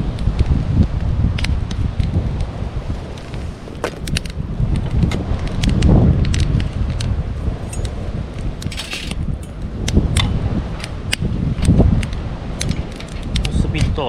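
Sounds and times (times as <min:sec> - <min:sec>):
wind rumble on microphone: 0:00.0 - 0:14.0
campfire crackling and popping: 0:00.1 - 0:14.0.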